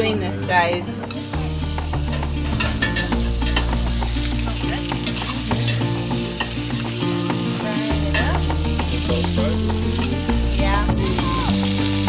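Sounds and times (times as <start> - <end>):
fish sizzling in a pan: 1.0 - 12.0.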